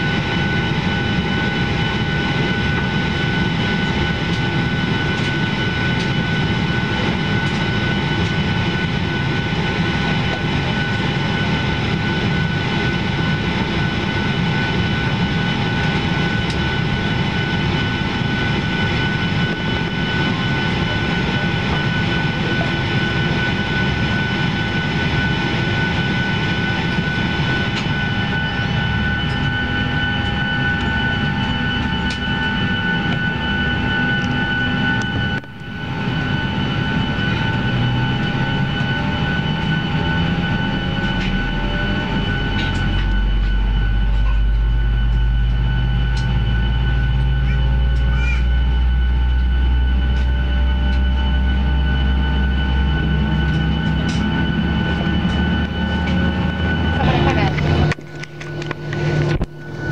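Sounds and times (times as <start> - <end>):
jet engines taxiing: 0.0 - 59.9.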